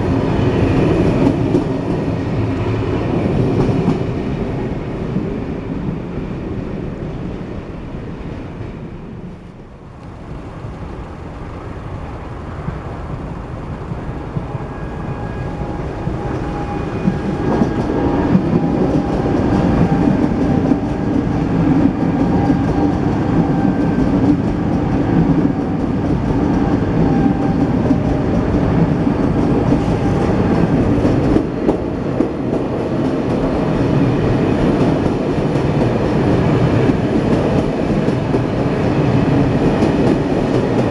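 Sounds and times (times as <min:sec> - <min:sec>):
train running past on rails: 0:00.0 - 0:40.9.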